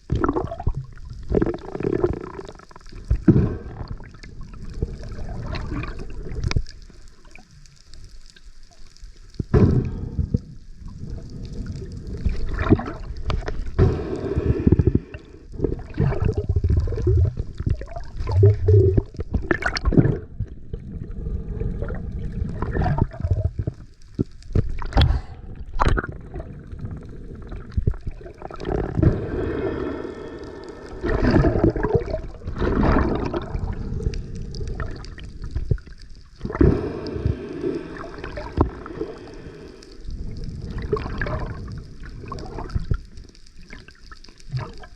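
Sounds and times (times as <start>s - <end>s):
water gurgling and sloshing: 0.0s - 44.9s.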